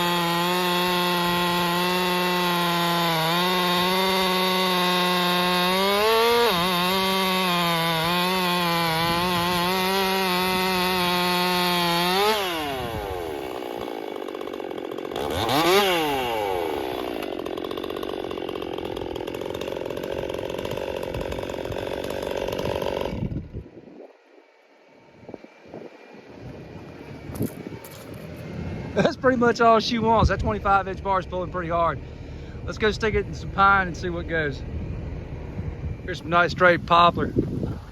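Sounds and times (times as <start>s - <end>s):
chainsaw cutting at full throttle: 0.0s - 37.9s.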